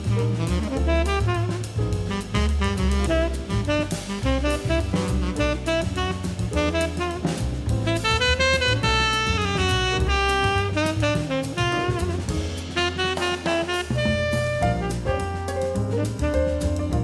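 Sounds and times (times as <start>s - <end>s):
bass: 0.0s - 17.0s
drum kit: 0.0s - 17.0s
saxophone: 0.0s - 17.0s.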